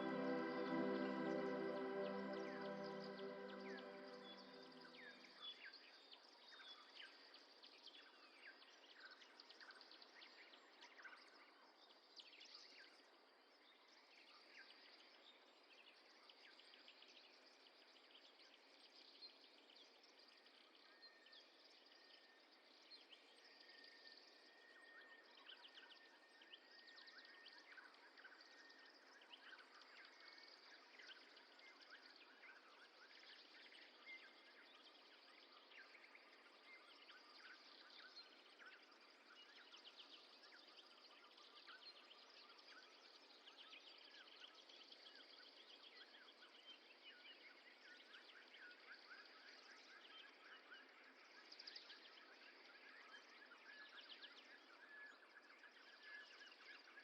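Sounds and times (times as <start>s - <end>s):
soft steady hiss: 0.0s - 57.0s.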